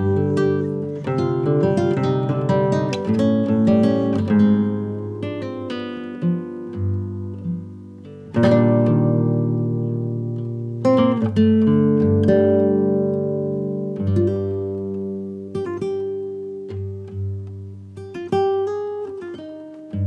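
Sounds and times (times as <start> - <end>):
guitar plucked notes and chords: 0.0 - 20.0.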